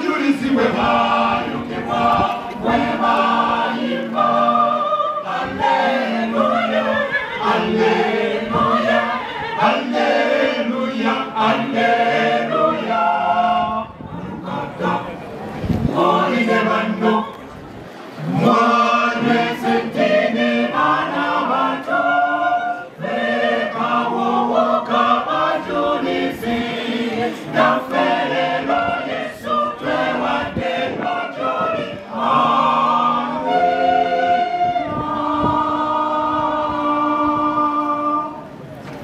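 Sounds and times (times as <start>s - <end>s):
choir singing a hymn: 0.0s - 38.6s.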